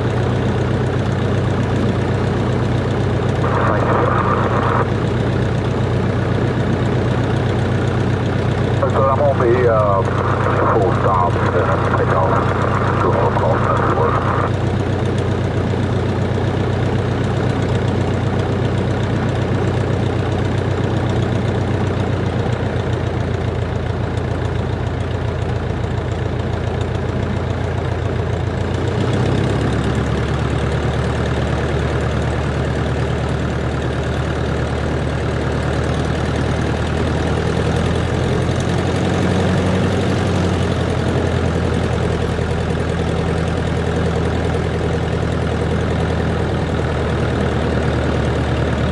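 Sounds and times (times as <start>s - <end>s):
light aircraft engine idling: 0.0s - 48.9s.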